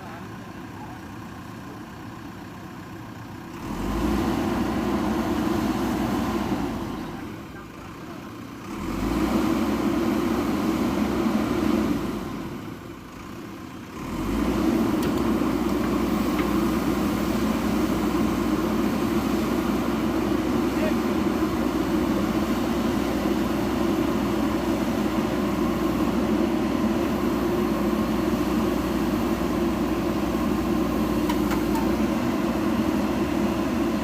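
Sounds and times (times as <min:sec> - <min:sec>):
diesel engine revving: 0:01.2 - 0:34.0.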